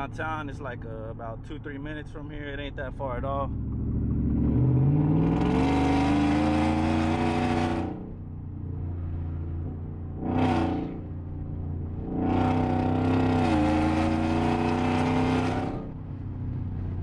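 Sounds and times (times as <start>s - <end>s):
truck engine accelerating hard: 0.0s - 17.0s.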